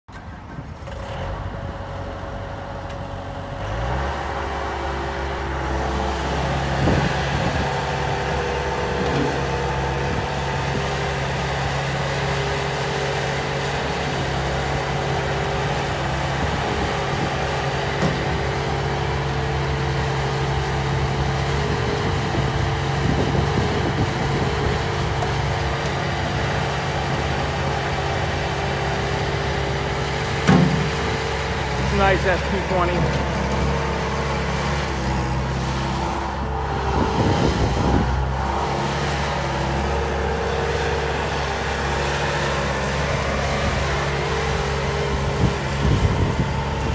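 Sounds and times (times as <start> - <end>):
diesel loader engine running: 0.1 - 46.9.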